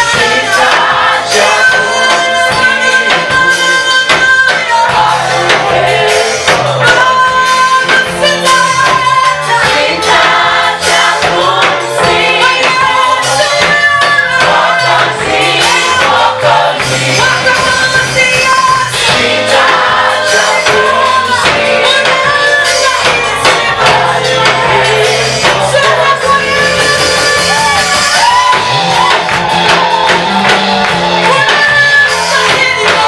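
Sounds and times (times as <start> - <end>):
band with bass and percussion: 0.0 - 33.0
gospel singers in harmony: 0.0 - 33.0.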